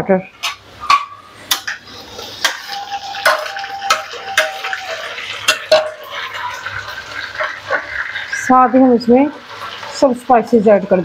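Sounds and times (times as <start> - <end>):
onions sizzling in hot oil: 0.7 - 11.0.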